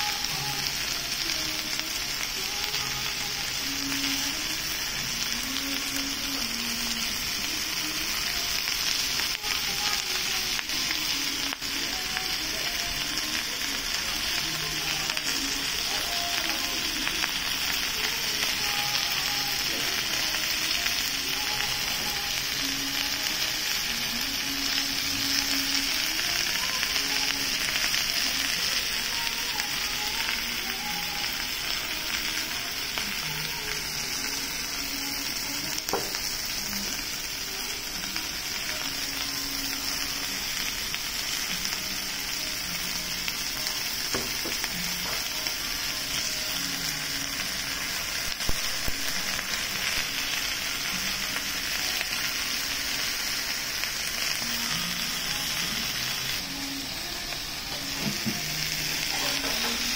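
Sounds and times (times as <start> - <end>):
meat and vegetables sizzling: 0.0 - 59.9.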